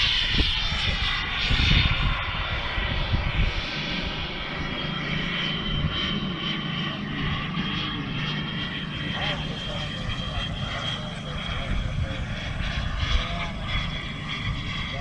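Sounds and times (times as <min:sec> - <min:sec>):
jet turbine whine and roar: 0:00.0 - 0:15.0.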